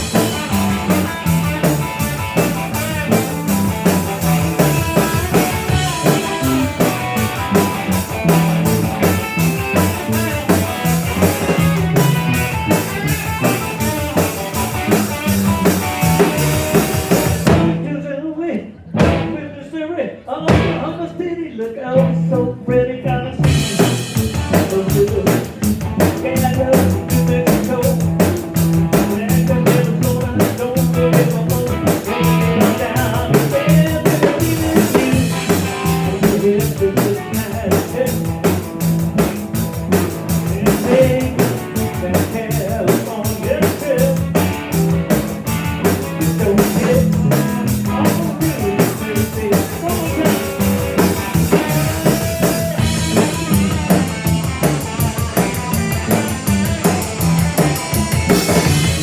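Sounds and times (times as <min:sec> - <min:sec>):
live rock band playing: 0:00.0 - 0:17.9, 0:18.9 - 0:19.4, 0:20.5 - 0:21.1, 0:21.9 - 0:59.0.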